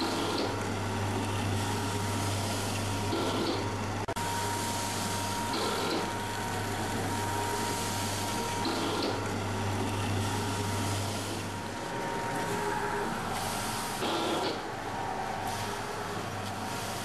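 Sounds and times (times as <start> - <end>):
faint machine whine: 0.0 - 17.0
packing machine low hum: 0.0 - 17.0.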